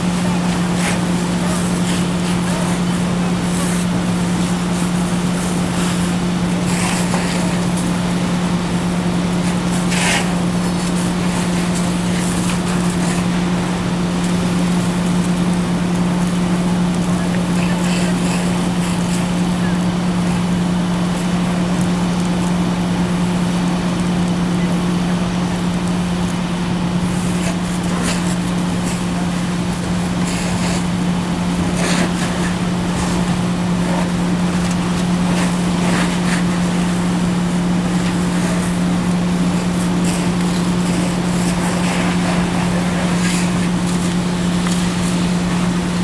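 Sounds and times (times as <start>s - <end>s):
fire hose spray hissing: 0.0s - 46.0s
pump engine droning: 0.0s - 46.0s.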